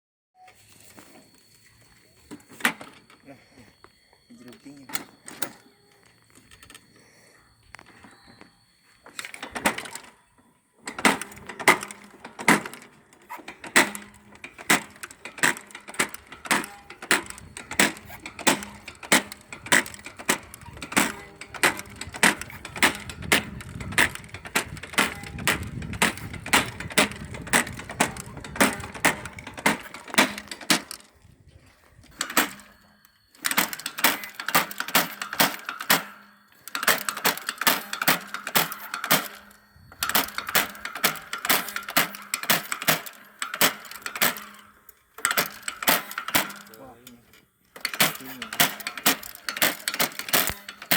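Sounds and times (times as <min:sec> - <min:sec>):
corn planter clicking: 0:04.3 - 0:05.7, 0:09.1 - 0:10.2, 0:10.8 - 0:50.9.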